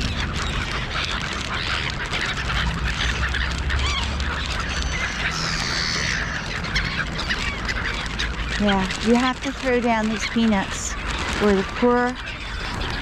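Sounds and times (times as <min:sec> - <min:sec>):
gulls calling: 0:00.0 - 0:13.0
steady low rumble: 0:00.0 - 0:13.0.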